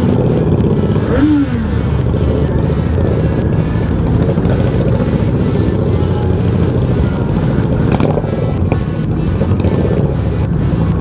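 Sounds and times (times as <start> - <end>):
motorcycle engines running low: 0.0 - 11.0.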